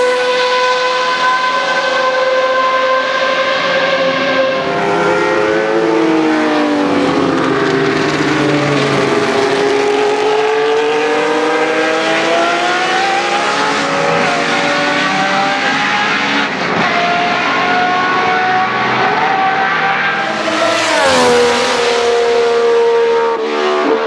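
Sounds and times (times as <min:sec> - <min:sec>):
race car engines passing: 0:00.0 - 0:24.0.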